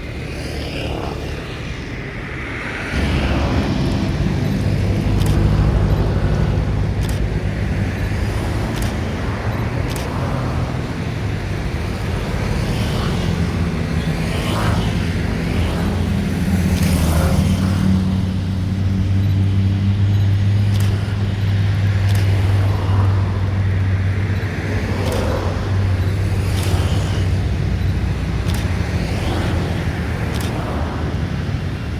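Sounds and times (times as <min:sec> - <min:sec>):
low engine drone: 0:00.0 - 0:31.9
sharp clicks: 0:02.9 - 0:13.6, 0:14.4 - 0:18.4, 0:19.6 - 0:31.9.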